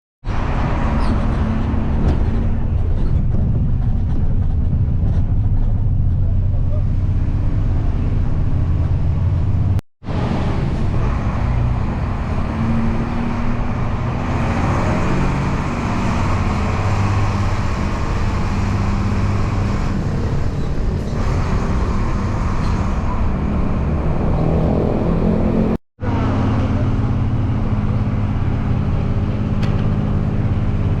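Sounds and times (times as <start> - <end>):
road noise: 0.2 - 31.0
vehicle engine drone: 0.3 - 31.0.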